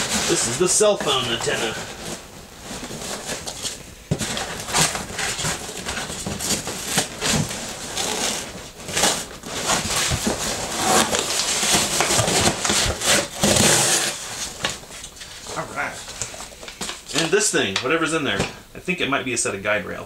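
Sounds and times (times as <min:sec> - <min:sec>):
packing peanuts rustling: 0:00.0 - 0:17.9.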